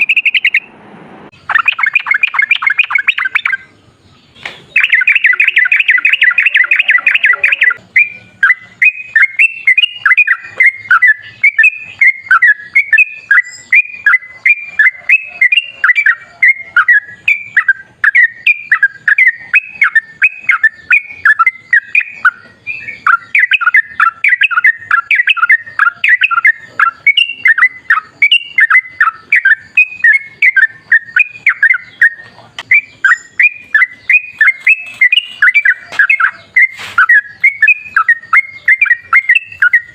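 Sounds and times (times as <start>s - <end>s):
bird singing trills and chatter: 0.0s - 0.7s, 1.3s - 39.9s.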